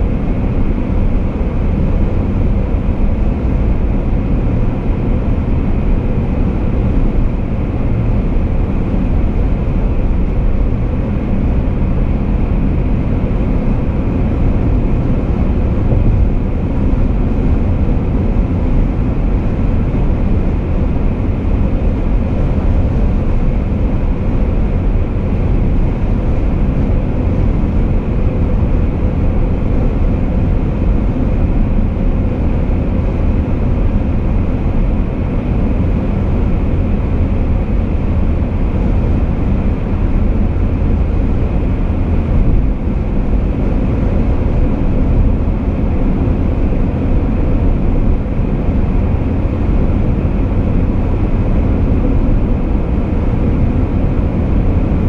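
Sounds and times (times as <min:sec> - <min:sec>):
car tyre and engine rumble: 0:00.0 - 0:55.0.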